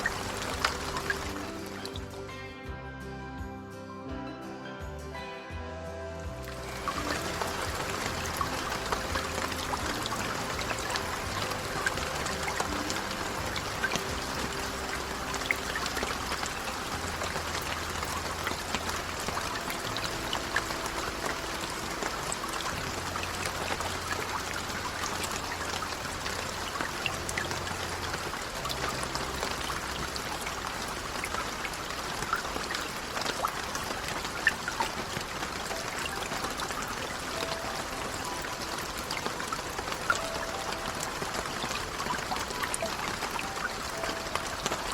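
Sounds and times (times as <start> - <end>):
rain drops splashing: 0.0 - 2.4, 6.3 - 44.9
trickling runoff water: 0.0 - 2.4, 6.2 - 44.9.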